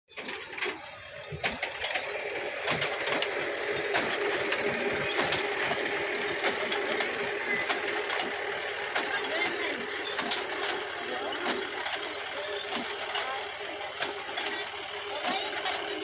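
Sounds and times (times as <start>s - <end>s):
planter mechanical clatter: 0.1s - 16.0s
tractor engine hum: 0.1s - 16.0s.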